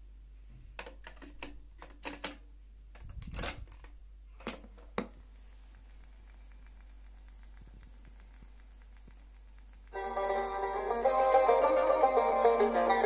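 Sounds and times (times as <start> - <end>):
tape hiss: 2.4 - 13.0.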